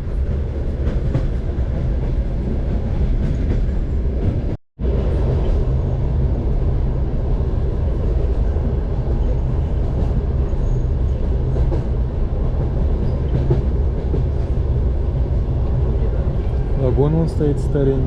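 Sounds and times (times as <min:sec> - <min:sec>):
train car rumbling: 0:00.0 - 0:18.0.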